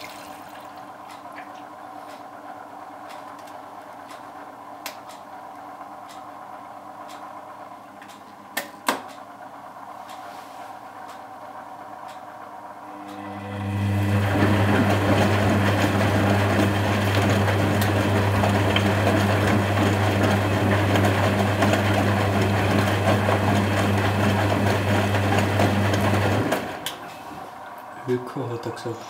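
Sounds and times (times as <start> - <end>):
washing machine drain pump hum: 0.0 - 7.9, 10.8 - 29.0.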